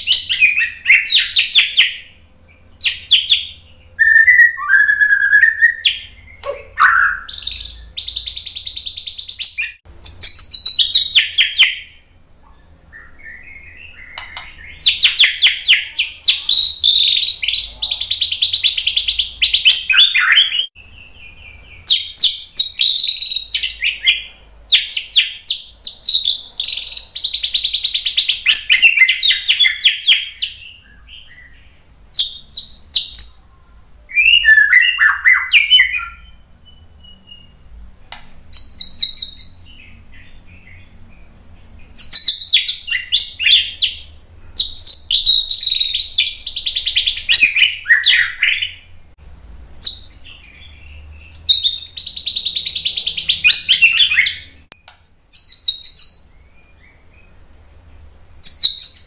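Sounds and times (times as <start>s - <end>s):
bird singing whistled phrases: 0.0s - 37.7s, 38.5s - 48.9s, 49.8s - 57.3s, 58.4s - 59.0s.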